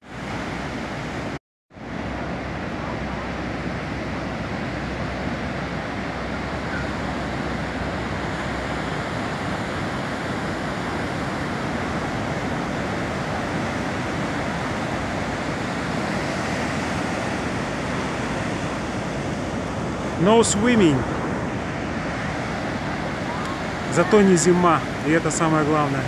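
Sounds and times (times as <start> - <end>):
waves breaking on beach: 0.0 - 26.0.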